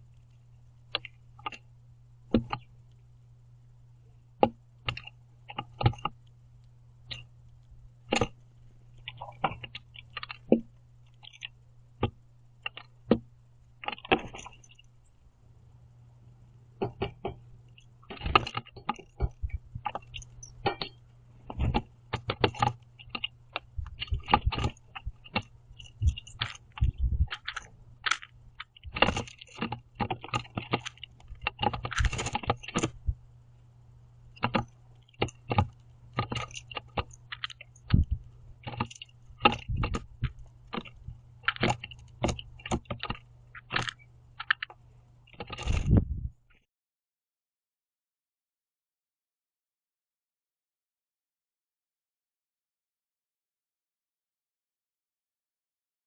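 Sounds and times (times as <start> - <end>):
low hum: 0.0 - 46.5.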